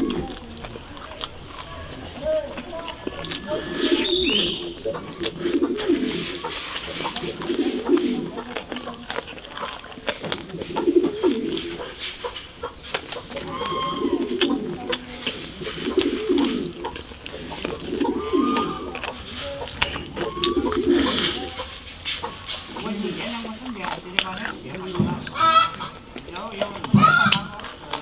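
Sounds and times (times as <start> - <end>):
pigeon cooing: 0.0 - 28.0.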